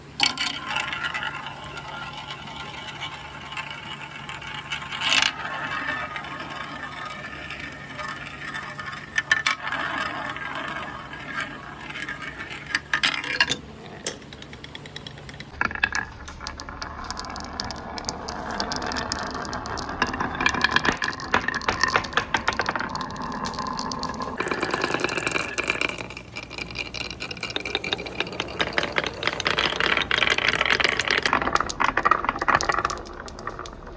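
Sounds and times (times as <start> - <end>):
marbles knocking on track: 0.0 - 33.9
marbles rattling down wooden run: 0.0 - 33.9.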